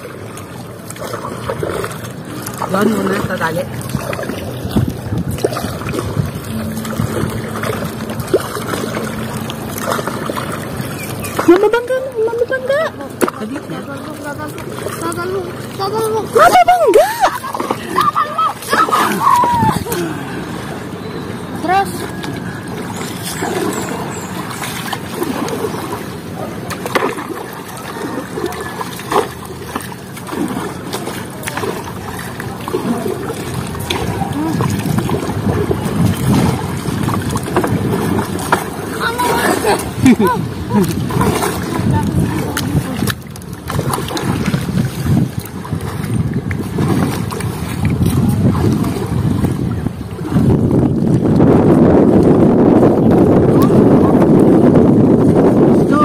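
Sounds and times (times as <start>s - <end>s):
water sloshing around a raft: 0.0s - 56.0s
wind on microphone: 0.0s - 56.0s.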